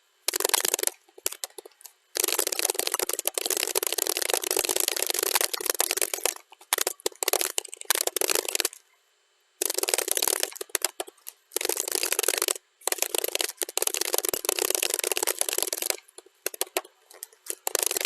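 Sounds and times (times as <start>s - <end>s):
fast typing on keyboard: 0.3s - 8.8s, 9.6s - 18.0s.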